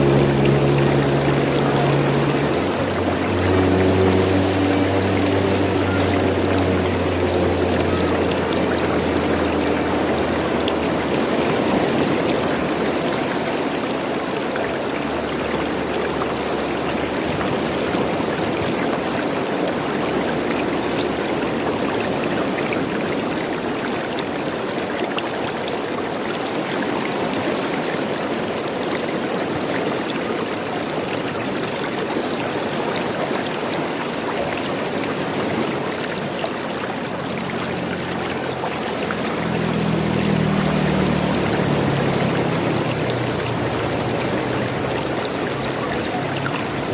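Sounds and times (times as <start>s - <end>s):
running water gurgling and splashing: 0.0s - 46.9s.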